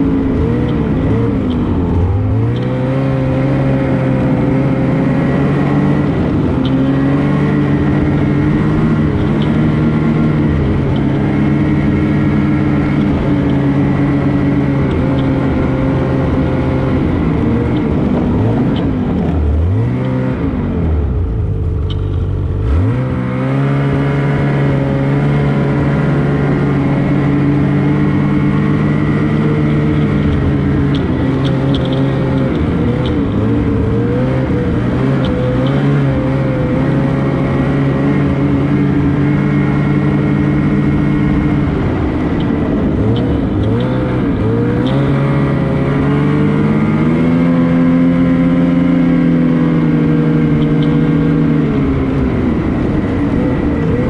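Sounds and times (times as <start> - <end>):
snowmobile two-stroke engine running: 0.0 - 54.0.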